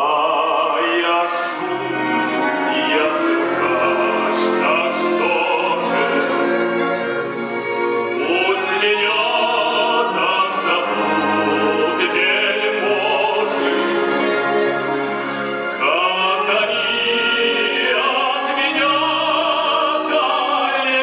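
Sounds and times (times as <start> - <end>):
operatic singing: 0.0 - 21.0
sustained orchestral strings: 0.0 - 21.0.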